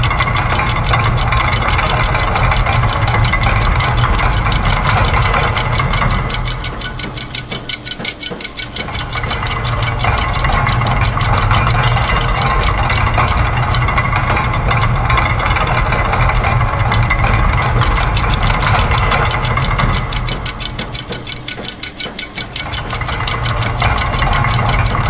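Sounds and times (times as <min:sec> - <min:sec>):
sewing machine: 0:00.0 - 0:08.0, 0:08.8 - 0:25.0
low mechanical rumble: 0:00.0 - 0:25.0
rapid mechanical ticking: 0:00.0 - 0:25.0.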